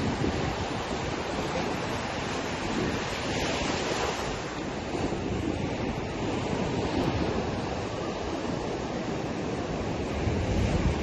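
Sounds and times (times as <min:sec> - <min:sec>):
surf washing against seawall: 0:00.0 - 0:11.0
wind buffeting microphone: 0:00.0 - 0:11.0.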